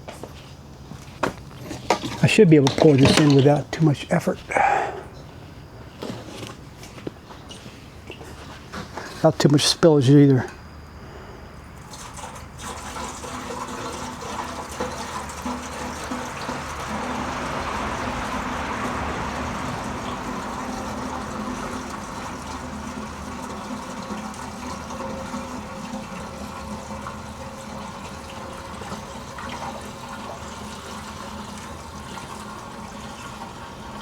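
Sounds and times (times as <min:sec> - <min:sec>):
gasoline pouring into fuel tank: 0:01.2 - 0:06.8, 0:11.5 - 0:34.0.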